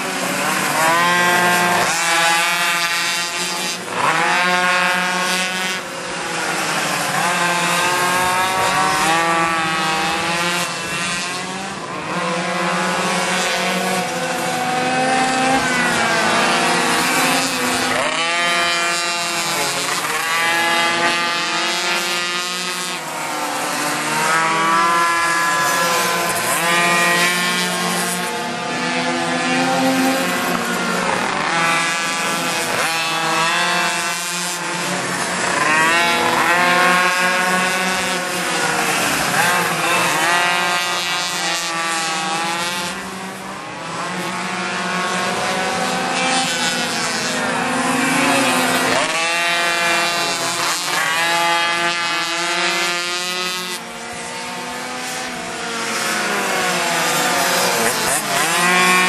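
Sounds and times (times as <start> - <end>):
small motorbike engines revving: 0.0 - 59.0.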